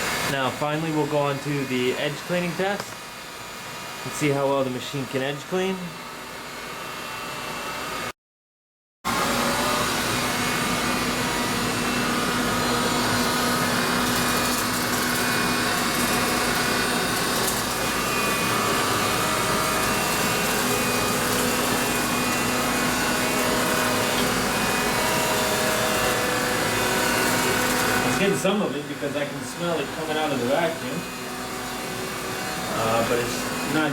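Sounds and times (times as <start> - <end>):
vacuum cleaner humming: 0.0 - 7.8, 9.1 - 33.9.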